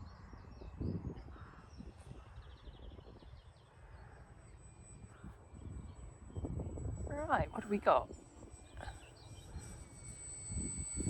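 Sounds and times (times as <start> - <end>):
wind rumbling on microphone: 0.0 - 4.4, 5.0 - 11.0
faint bird chirps: 0.0 - 11.0.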